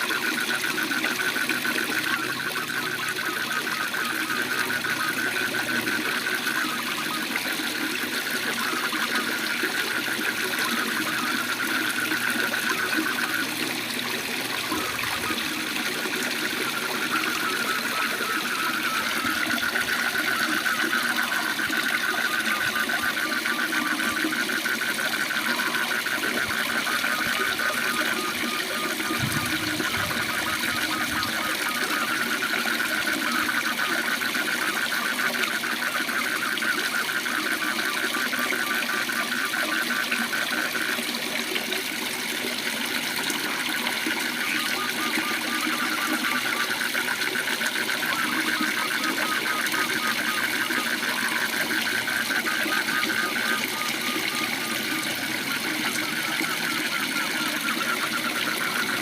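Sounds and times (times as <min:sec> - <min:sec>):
frogs trilling: 0:00.0 - 0:59.0.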